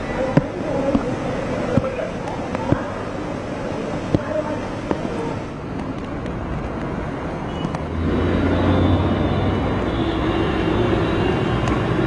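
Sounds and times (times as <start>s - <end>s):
steady wash of water noise: 0.0s - 12.0s
vehicle engine hum: 0.0s - 12.0s.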